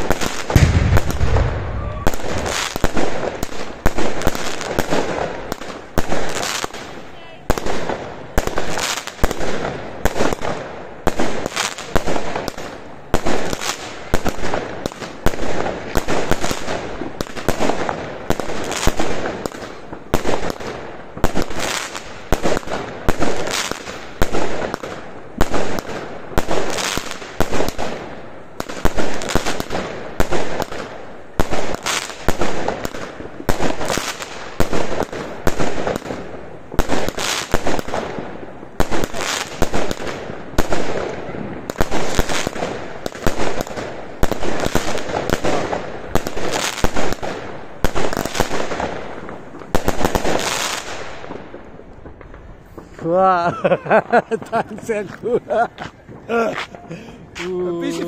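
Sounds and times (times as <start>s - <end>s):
firework bangs: 0.0s - 53.1s, 53.8s - 58.0s.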